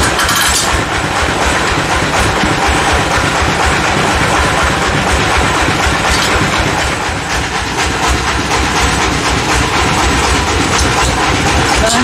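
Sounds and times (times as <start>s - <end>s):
sawmill machinery clatter and hum: 0.0s - 12.0s.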